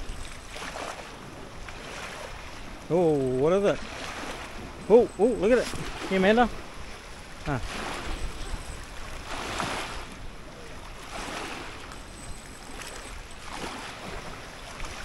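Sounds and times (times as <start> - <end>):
lake water lapping: 0.0 - 15.0.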